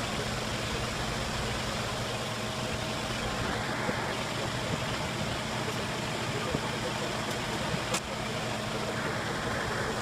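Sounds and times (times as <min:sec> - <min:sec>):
machine running steadily: 0:00.0 - 0:10.0.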